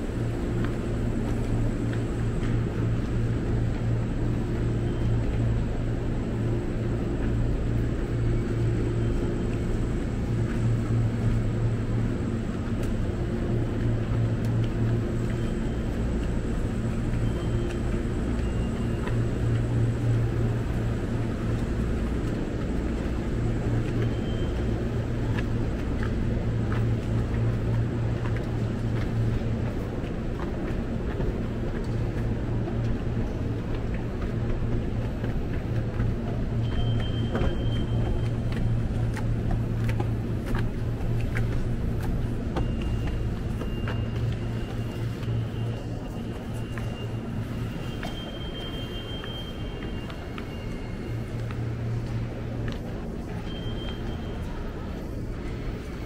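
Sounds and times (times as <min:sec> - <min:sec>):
faint footsteps on stairs: 0:00.0 - 0:56.0
low mechanical hum: 0:00.0 - 0:56.0.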